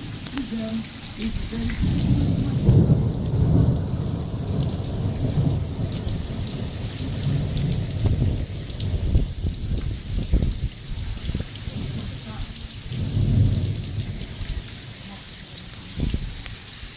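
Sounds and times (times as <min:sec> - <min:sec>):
rolling thunder: 0:00.0 - 0:15.0, 0:15.8 - 0:16.4
heavy rain: 0:00.0 - 0:16.9.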